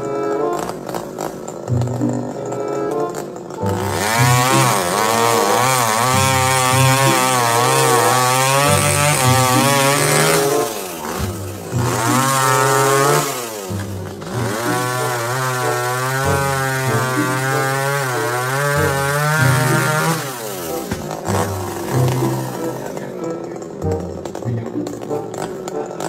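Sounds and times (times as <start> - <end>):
chainsaw cutting tree trunk: 0.0 - 26.0.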